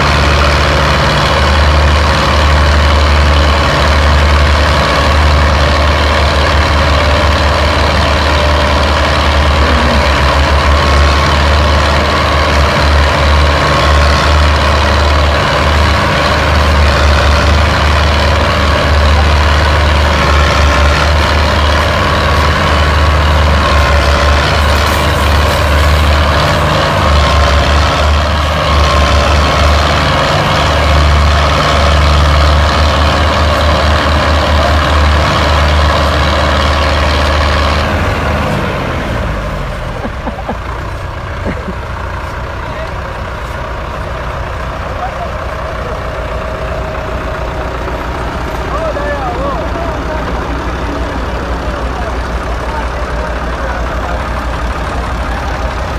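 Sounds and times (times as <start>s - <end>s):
tractor engines running: 0.0s - 55.9s.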